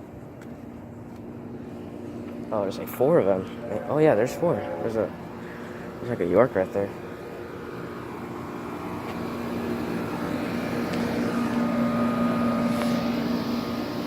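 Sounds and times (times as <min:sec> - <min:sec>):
air conditioner units humming: 0:00.0 - 0:14.0.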